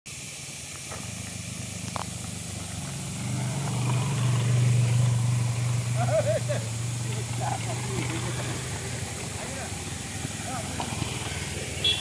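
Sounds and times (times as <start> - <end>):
small motorcycle engines: 0.1 - 12.0.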